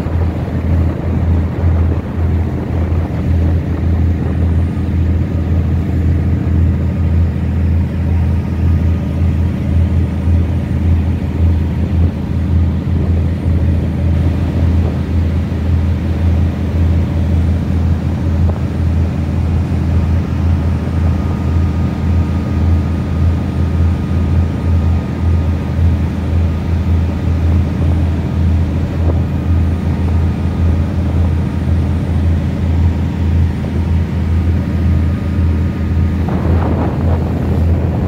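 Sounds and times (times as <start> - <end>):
wind on microphone: 0.0 - 7.4, 8.1 - 23.4, 26.8 - 38.0
churning water rushing: 0.0 - 38.0
ship engine humming: 0.0 - 38.0.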